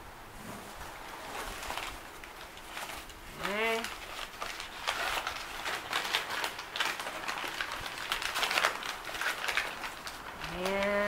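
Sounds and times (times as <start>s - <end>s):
newspaper crinkling and rustling: 0.9s - 11.0s.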